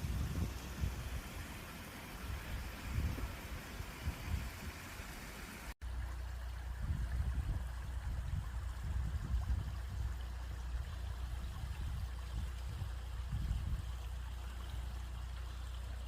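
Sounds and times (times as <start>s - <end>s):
stream water running: 0.0s - 16.0s.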